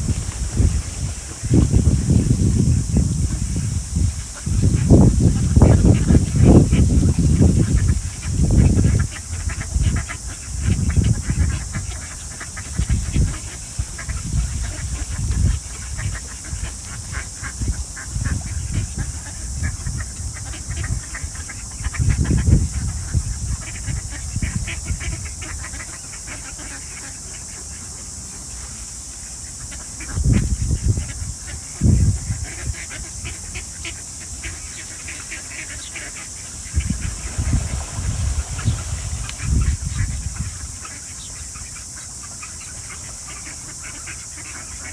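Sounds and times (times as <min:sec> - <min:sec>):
wind rumbling on microphone: 0:00.0 - 0:27.0, 0:29.4 - 0:42.1
ducks quacking: 0:00.0 - 0:44.9
steady high hiss: 0:00.0 - 0:44.9.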